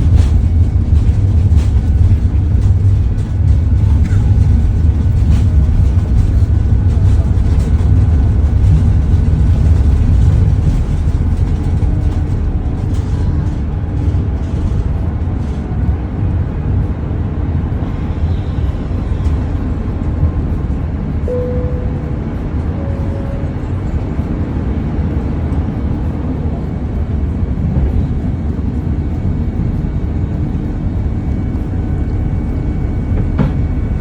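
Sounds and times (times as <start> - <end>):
jet engines rumbling: 0.0 - 34.0.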